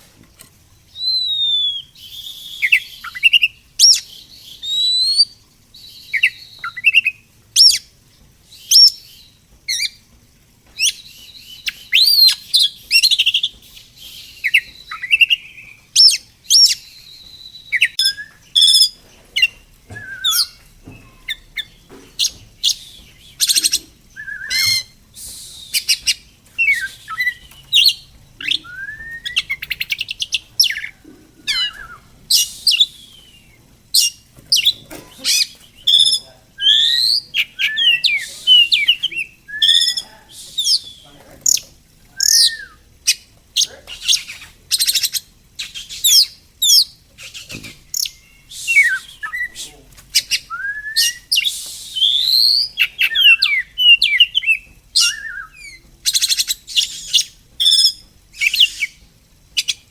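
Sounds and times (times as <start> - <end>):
songbirds whistling and trilling: 0.4 - 59.9.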